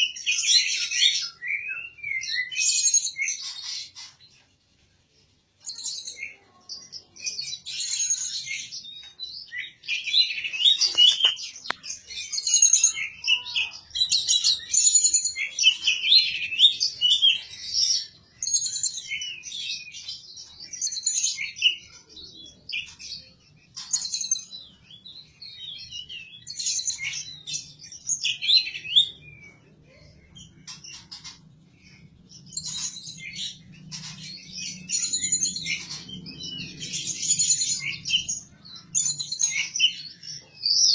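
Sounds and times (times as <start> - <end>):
songbird singing: 0.0 - 4.5, 5.6 - 40.9.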